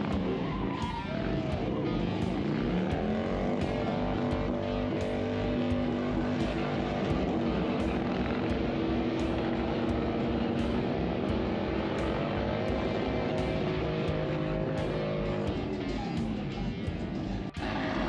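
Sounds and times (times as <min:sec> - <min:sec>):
motorcycle engine at high revs: 0:00.0 - 0:18.0.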